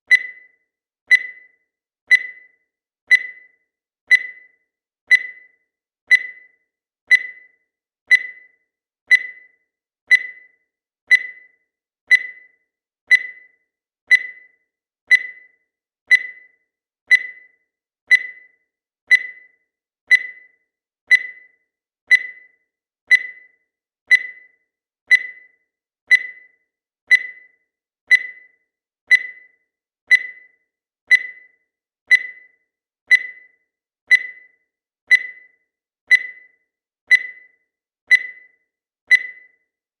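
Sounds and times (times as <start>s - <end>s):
digital timer beeping: 0.0s - 40.0s.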